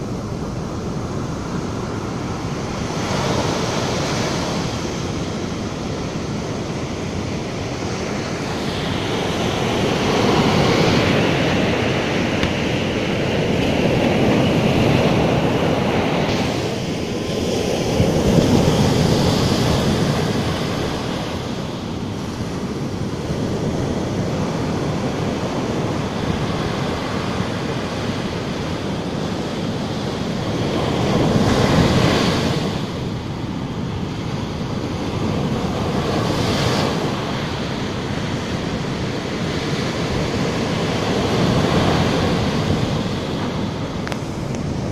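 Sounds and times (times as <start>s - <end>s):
waves breaking on sandy beach: 0.0s - 44.9s.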